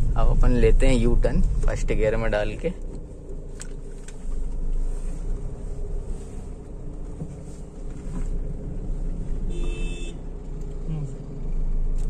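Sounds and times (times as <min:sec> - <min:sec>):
car engine running: 0:00.0 - 0:12.0
road rumble: 0:00.0 - 0:12.0.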